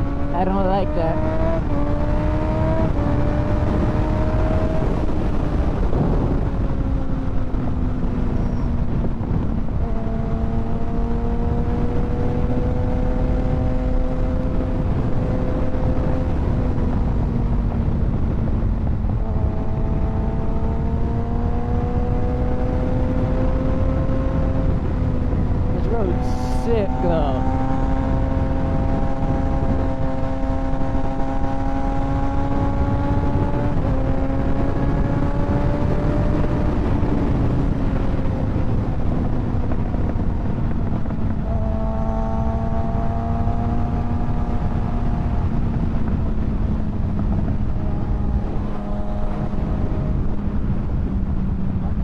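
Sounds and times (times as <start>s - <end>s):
motorcycle engine cruising: 0.0s - 52.0s
wind rush on microphone: 0.0s - 52.0s.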